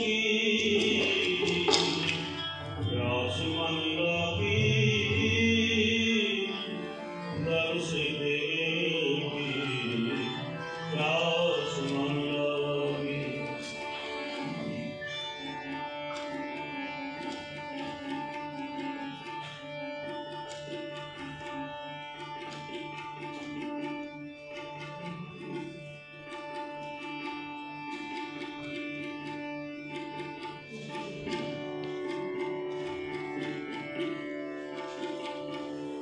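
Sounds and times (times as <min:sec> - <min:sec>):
harmonium chords: 0:00.0 - 0:36.0.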